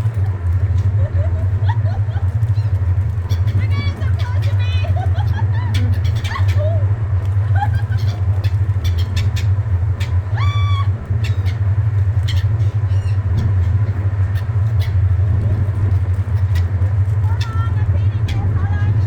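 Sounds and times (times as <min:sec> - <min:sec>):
seagulls calling: 0:00.0 - 0:19.0
steady low hum: 0:00.0 - 0:19.0.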